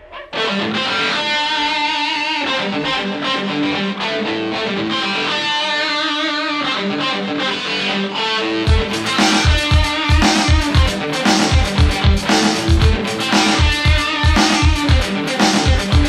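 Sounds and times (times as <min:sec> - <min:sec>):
hard rock electric guitar music: 0:00.0 - 0:16.0.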